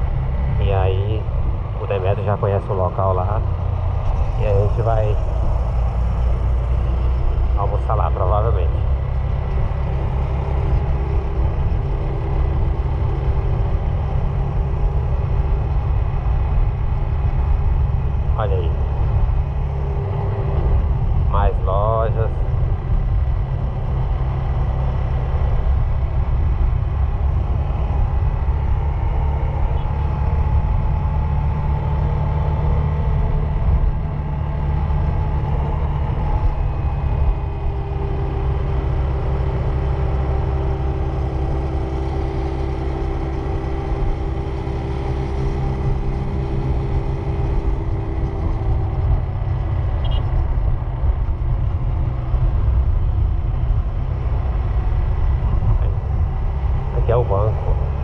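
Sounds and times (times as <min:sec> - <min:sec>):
car engine and road rumble: 0:00.0 - 0:58.0
faint steady drone: 0:00.0 - 0:58.0.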